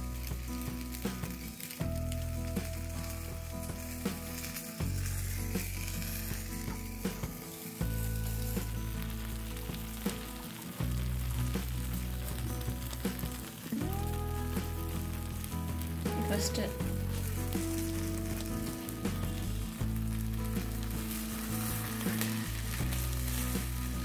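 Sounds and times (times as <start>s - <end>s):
background music: 0.0s - 24.0s
food sizzling on a grill: 0.0s - 24.0s.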